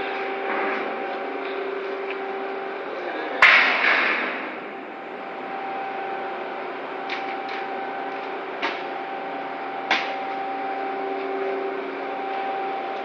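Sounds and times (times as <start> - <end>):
crane machinery humming drone: 0.0 - 13.0.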